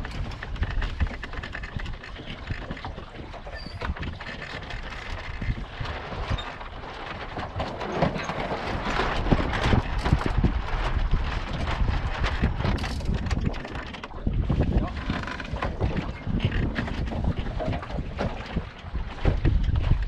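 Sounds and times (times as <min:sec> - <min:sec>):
water slapping along hull: 0:00.0 - 0:20.0
wind buffeting microphone: 0:00.0 - 0:20.0.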